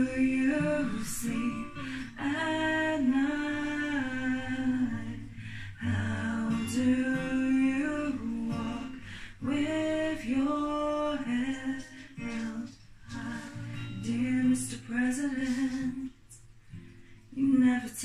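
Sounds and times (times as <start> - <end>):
woman singing slow song: 0.0 - 18.0.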